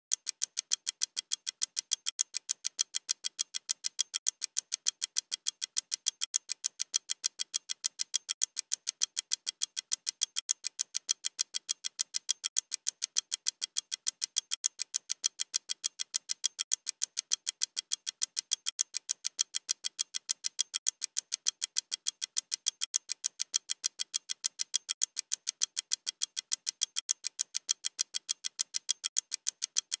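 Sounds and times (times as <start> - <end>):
clock ticking: 0.1 - 30.0.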